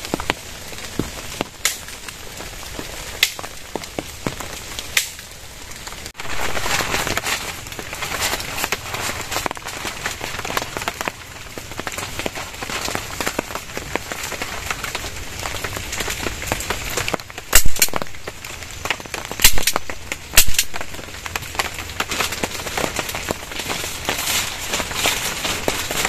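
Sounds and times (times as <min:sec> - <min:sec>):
heavy rain on plastic sheet: 0:00.0 - 0:26.0.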